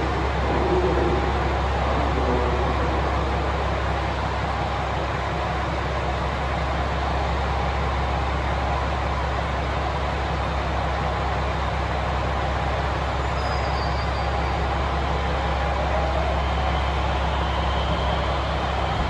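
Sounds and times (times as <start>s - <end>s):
electric train rumble and hum: 0.0s - 19.0s.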